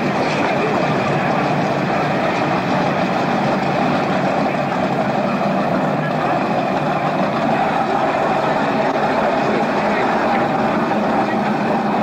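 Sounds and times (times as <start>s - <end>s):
powerboat engine rumbling: 0.0s - 12.0s.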